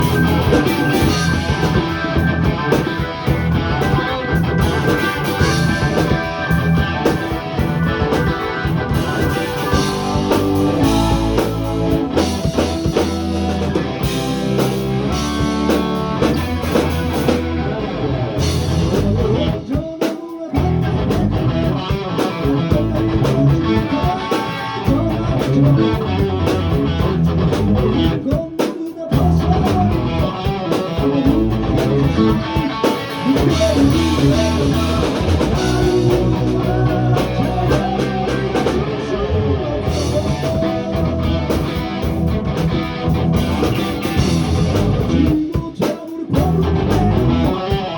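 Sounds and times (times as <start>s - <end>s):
rock music with guitar and drums: 0.0s - 47.9s.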